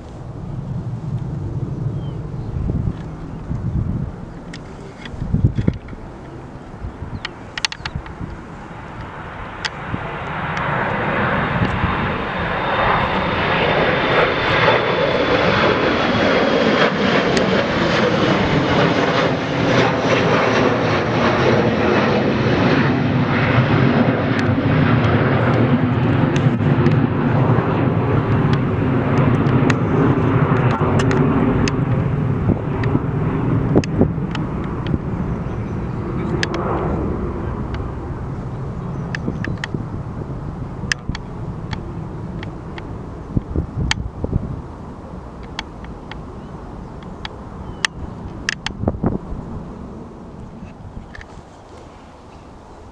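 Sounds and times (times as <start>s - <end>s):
high engine whine: 0.0s - 52.9s
jet engines roaring: 0.0s - 52.9s.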